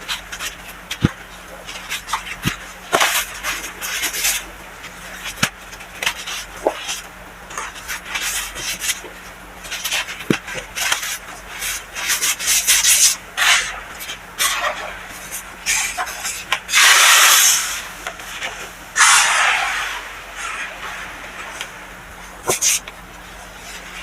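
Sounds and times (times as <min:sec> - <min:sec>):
gritty powder crushing and scraping: 0:00.0 - 0:24.0.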